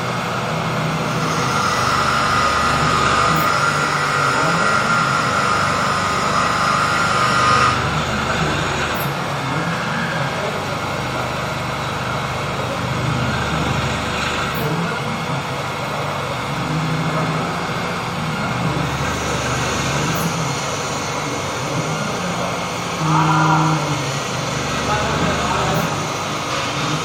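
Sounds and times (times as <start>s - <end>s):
machine tool running: 0.0s - 27.0s
motor hum changing pitch: 0.0s - 27.0s.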